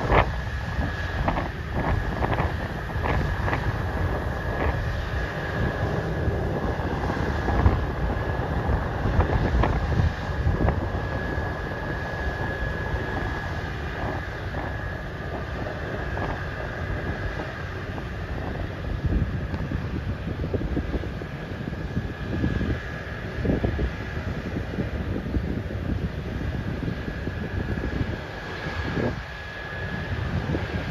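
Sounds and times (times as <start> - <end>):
combine harvester humming: 0.0 - 30.9
wind buffeting microphone: 0.0 - 30.9.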